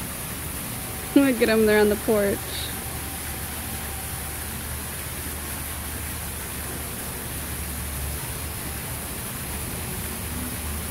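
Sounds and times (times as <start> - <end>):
steady hiss: 0.0 - 10.9.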